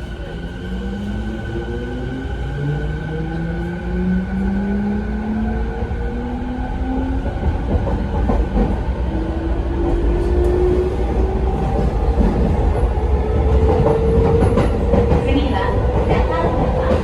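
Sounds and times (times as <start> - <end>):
wheels rumbling on rails: 3.3 - 17.0.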